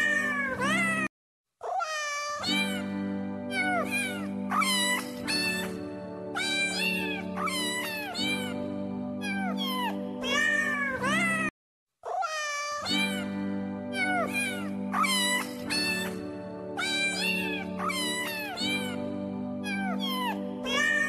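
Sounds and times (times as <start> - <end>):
cat meowing: 0.0 - 2.9, 3.5 - 5.8, 6.4 - 8.6, 9.2 - 13.3, 13.9 - 16.2, 16.8 - 19.0, 19.6 - 21.0
background music: 2.4 - 11.5, 12.9 - 21.0.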